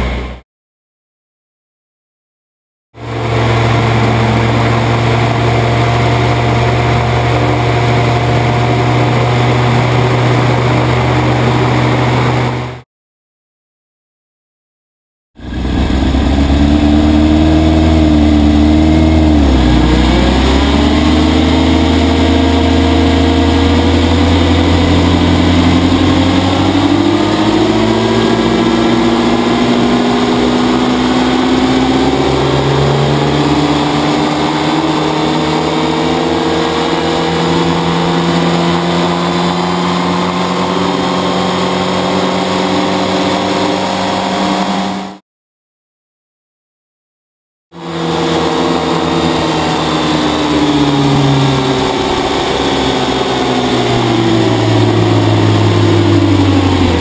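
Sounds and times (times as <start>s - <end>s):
motorcycle engine running: 3.0s - 12.8s, 15.4s - 45.2s, 47.8s - 57.0s.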